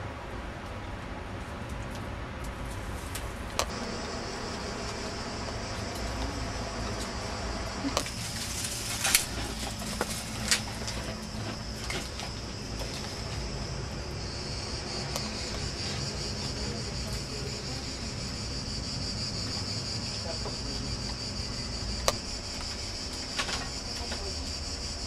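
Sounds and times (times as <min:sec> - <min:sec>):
high-pitched insect chorus: 0:03.6 - 0:25.0.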